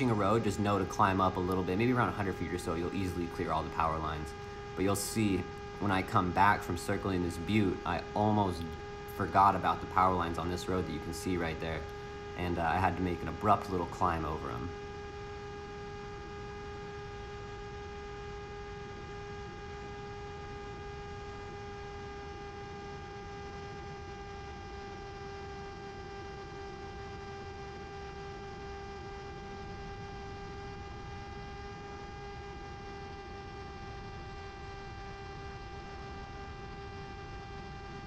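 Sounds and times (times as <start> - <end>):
electric motor whine: 0.0 - 38.0.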